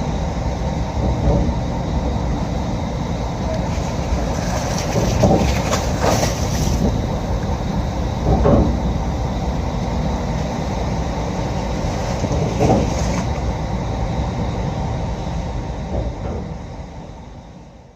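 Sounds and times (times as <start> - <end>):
ferry engine rumble: 0.0 - 17.9.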